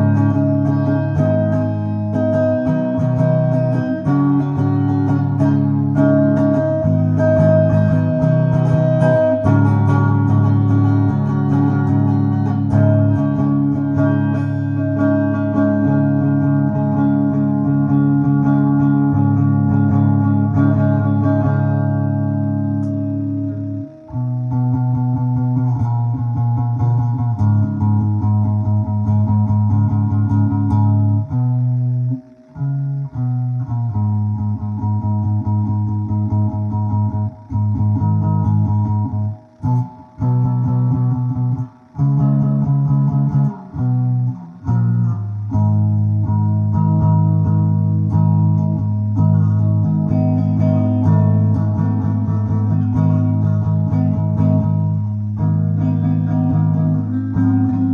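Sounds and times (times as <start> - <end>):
plucked guitar and bass song: 0.0 - 57.9.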